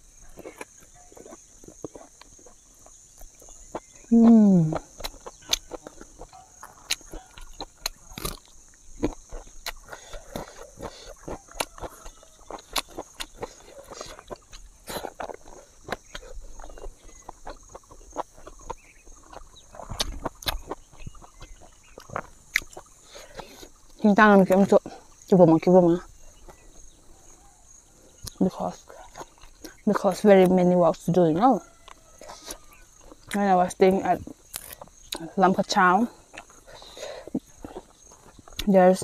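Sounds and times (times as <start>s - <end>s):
person chewing and lip-smacking: 0.2s - 25.4s, 28.2s - 30.5s, 31.8s - 35.3s, 36.2s - 38.8s.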